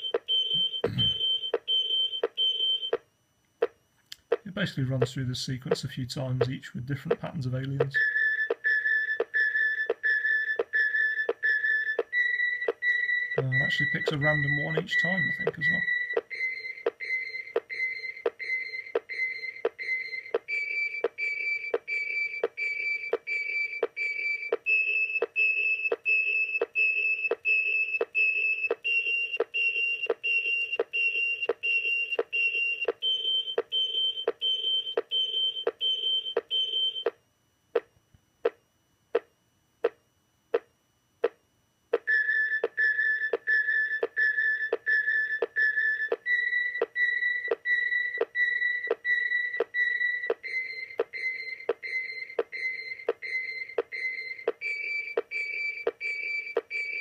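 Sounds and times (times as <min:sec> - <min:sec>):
motion tracker beeping: 0:00.0 - 0:03.0, 0:03.6 - 0:37.2, 0:42.0 - 0:57.0.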